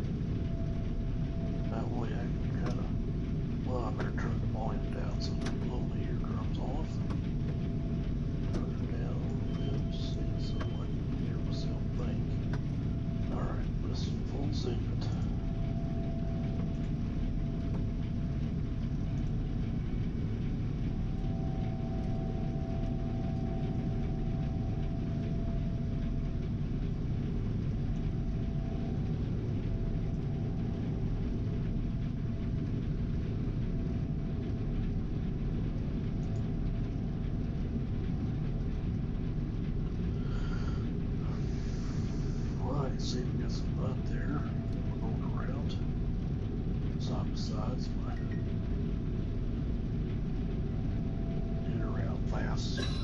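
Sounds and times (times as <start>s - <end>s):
combine harvester drone: 0.0s - 53.0s
faint wavering whine: 0.0s - 53.0s.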